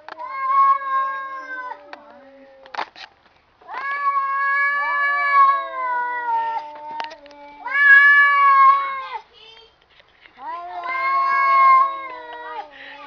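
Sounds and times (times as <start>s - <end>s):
cats yowling: 0.0s - 2.8s, 3.6s - 9.2s, 10.4s - 13.0s.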